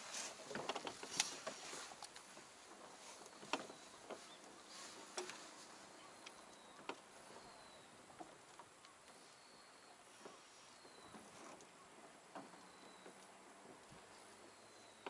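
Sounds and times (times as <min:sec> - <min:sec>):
faint light clicks and ticks: 0:00.2 - 0:15.0.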